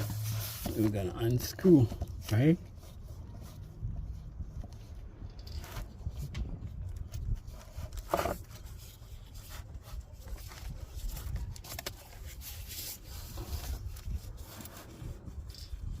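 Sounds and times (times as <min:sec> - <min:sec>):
wrench rubbing and scraping: 0:00.0 - 0:16.0.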